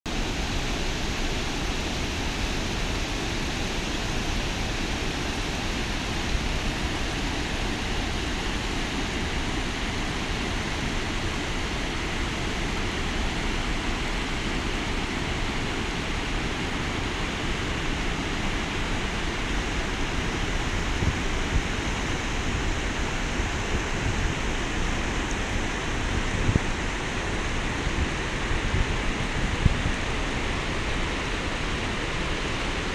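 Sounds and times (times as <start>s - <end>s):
water rushing over rocks: 0.1s - 32.9s.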